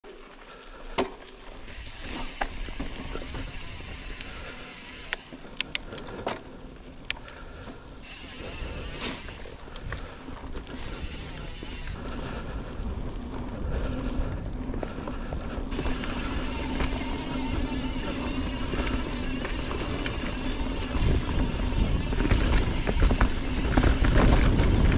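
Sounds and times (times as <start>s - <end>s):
mountain bike tyre and drivetrain noise: 0.0s - 24.9s.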